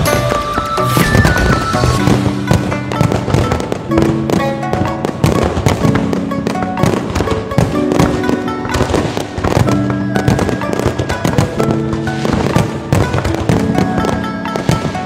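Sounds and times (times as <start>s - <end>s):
fireworks bangs and crackling: 0.0s - 15.0s
music with long held notes: 0.0s - 15.0s.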